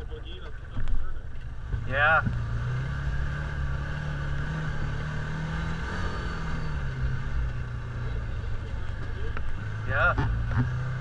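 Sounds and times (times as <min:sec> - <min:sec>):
utv engine running at low speed: 0:00.0 - 0:11.0.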